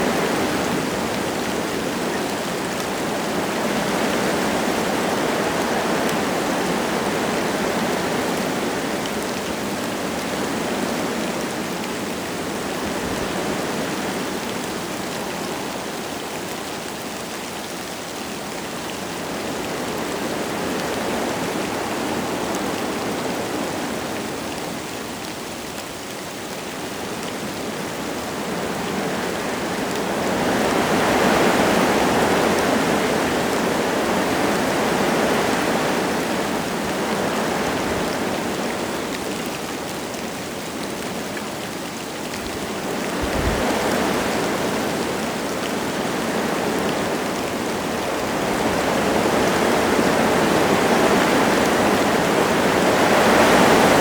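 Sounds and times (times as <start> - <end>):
light rain falling: 0.0 - 54.0
wind gusting through trees: 0.0 - 54.0.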